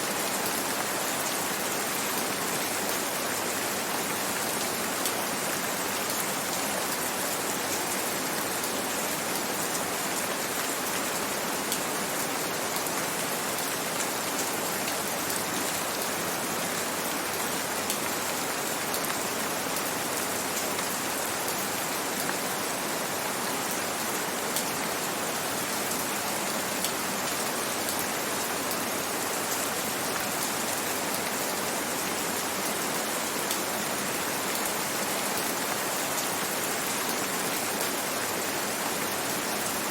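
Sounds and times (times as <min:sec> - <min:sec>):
steady gentle rain: 0:00.0 - 0:39.9.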